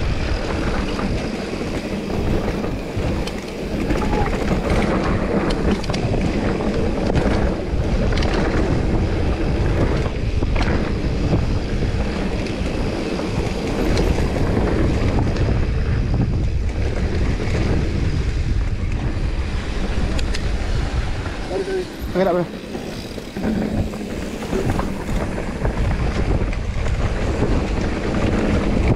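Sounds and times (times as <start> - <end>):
bike clicks and rattles: 0.0 - 28.9
wind buffeting microphone: 0.0 - 28.9.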